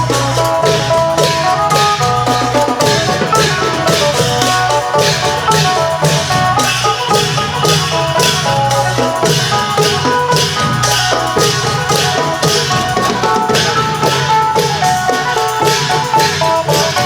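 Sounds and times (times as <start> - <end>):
cymbals keeping a steady beat: 0.0 - 17.0
long drums: 0.0 - 17.0
plucked lute melody: 0.0 - 17.0.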